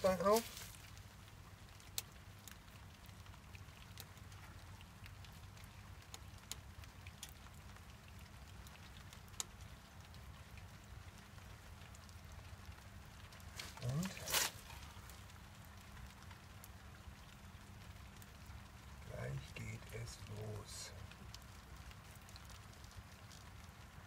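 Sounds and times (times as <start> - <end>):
rain drips ticking: 0.0 - 24.0
stove burning wood: 0.0 - 24.0.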